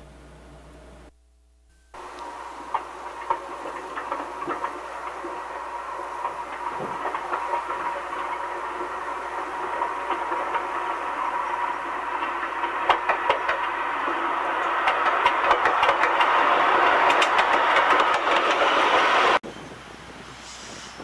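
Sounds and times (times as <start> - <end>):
rail clicks: 2.0 - 19.7
train wheels on rails: 2.0 - 21.0.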